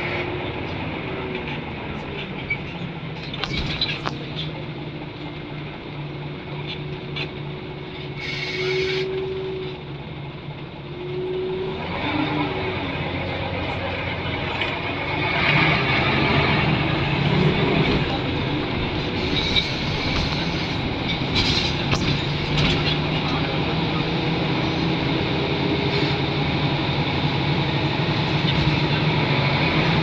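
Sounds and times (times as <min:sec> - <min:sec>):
bus drivetrain noise: 0:00.0 - 0:30.0.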